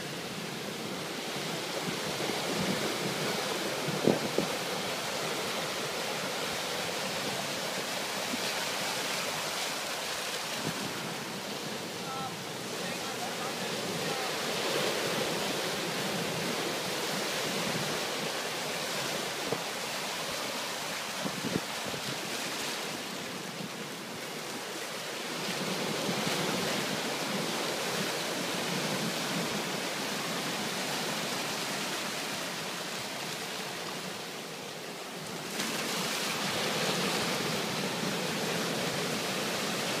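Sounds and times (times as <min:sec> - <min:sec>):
surf breaking over rocks: 0:00.0 - 0:34.2, 0:35.2 - 0:40.0.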